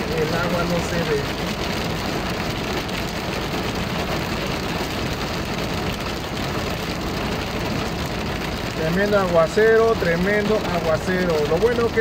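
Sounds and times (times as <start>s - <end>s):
car engine running: 0.0s - 12.0s
heavy rain on car roof: 0.0s - 12.0s.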